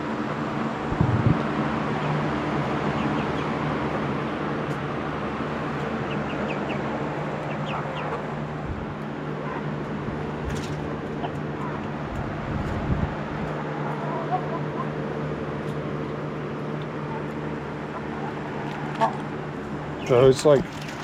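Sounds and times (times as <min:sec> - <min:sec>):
electric fans humming: 0:00.0 - 0:21.0
chickens clucking and chirping: 0:01.1 - 0:21.0.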